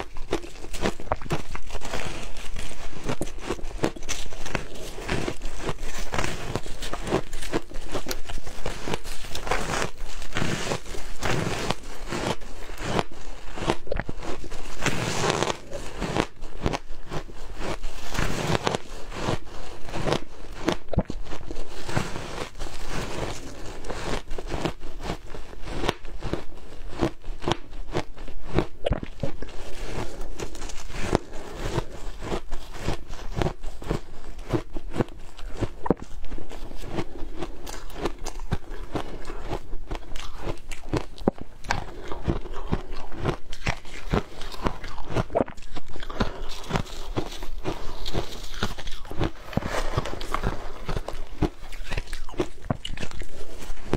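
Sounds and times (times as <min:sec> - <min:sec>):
ice being chewed crunching: 0:00.0 - 0:53.9.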